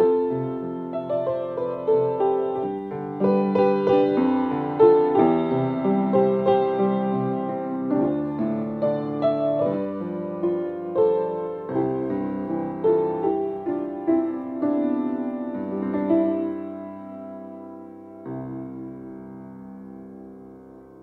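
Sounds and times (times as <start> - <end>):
slow gentle piano: 0.0 - 21.0.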